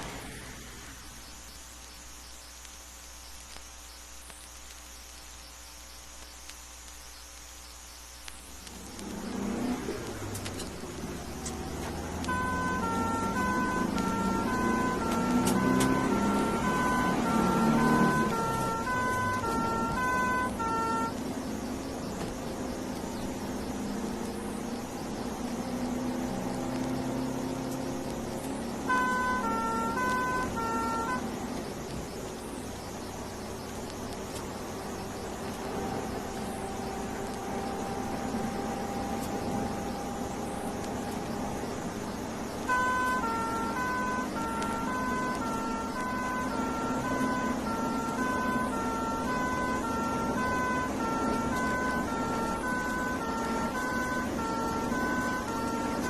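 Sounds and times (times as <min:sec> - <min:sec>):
two-tone siren: 0:08.6 - 0:56.0
vehicle engine approaching: 0:08.6 - 0:56.0.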